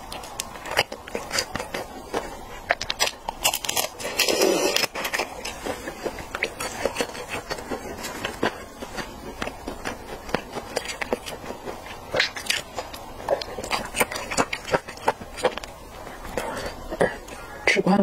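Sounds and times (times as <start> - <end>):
wet eating mouth sounds: 0.0 - 17.6.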